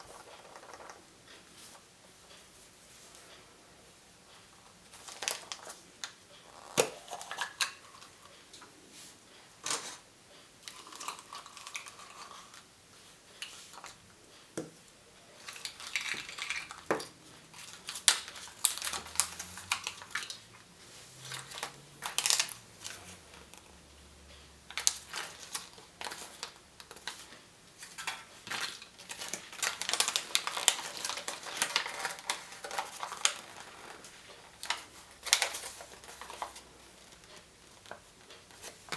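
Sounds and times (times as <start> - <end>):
rustling and crinkling: 0.0 - 3.5, 4.3 - 14.5, 15.2 - 38.9.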